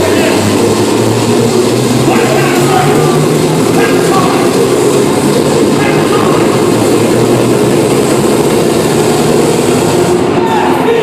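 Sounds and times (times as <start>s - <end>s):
loud distorted dance music: 0.0s - 11.0s.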